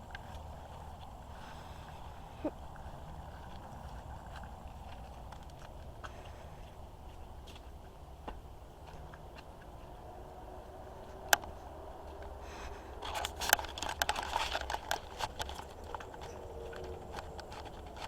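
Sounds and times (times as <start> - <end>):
crackling and crunching: 0.0 - 10.0, 10.9 - 18.0.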